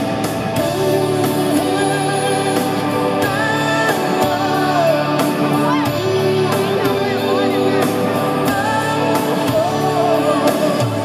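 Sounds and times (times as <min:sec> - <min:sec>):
live band playing sustained notes: 0:00.0 - 0:11.0.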